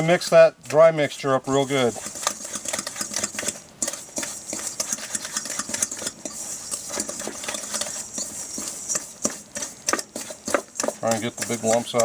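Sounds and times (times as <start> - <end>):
utensil scraping metal bowl: 0.0 - 12.0.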